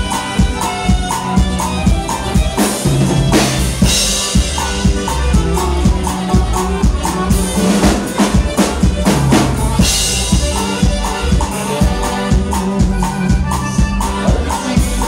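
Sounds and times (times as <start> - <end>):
drum kit beat: 0.0 - 15.0
live band playing dance song: 0.0 - 15.0.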